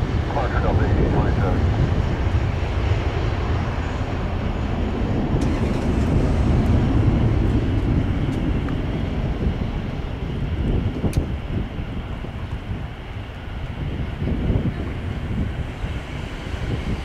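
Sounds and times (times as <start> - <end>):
jet airliner rumble: 0.0 - 17.0.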